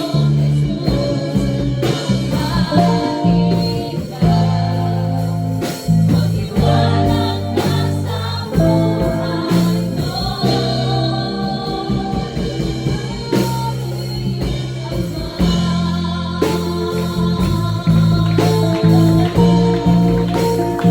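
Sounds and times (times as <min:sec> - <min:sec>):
gospel singing with band: 0:00.0 - 0:20.9.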